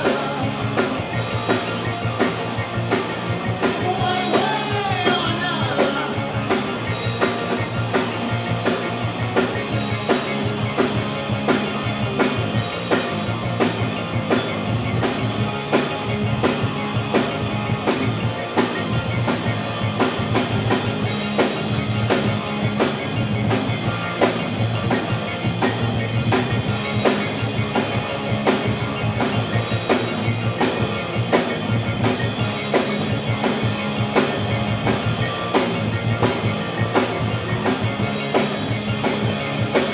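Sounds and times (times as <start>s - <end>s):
drum kit beat: 0.0s - 39.9s
rock band playing: 0.0s - 39.9s.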